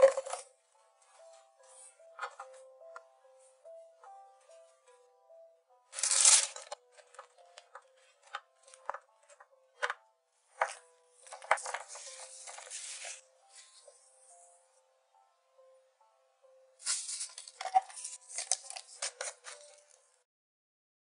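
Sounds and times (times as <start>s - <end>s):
light background music: 0.0s - 20.2s.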